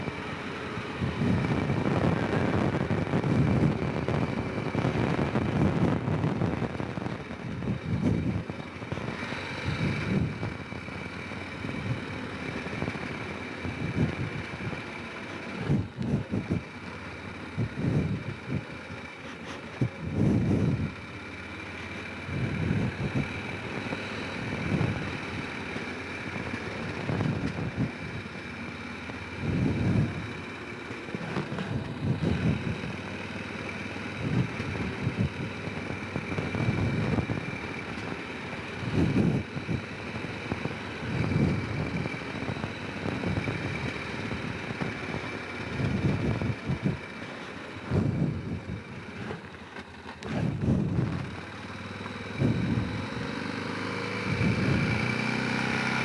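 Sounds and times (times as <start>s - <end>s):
quad engine running: 0.0s - 56.0s.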